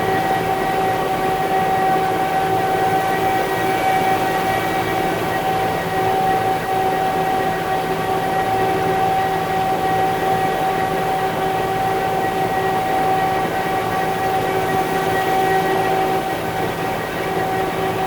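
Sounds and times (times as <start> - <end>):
constant high whine: 0.0 - 18.0.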